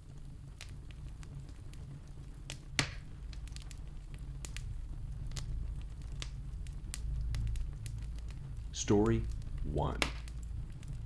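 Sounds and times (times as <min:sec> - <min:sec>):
low steady rumble: 0:00.0 - 0:11.0
sharp pops of fire: 0:00.0 - 0:11.0
wood fire crackling: 0:00.0 - 0:11.0.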